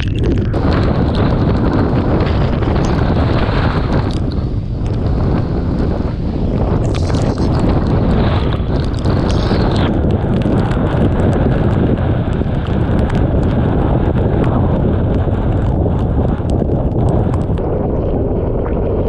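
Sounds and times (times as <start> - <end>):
wind roaring on microphone: 0.0 - 19.0.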